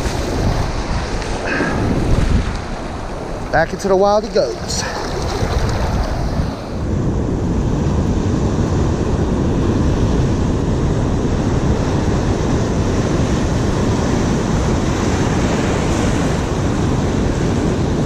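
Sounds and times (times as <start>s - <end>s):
ocean surf on beach: 0.0s - 18.0s
wind buffeting microphone: 0.0s - 18.0s.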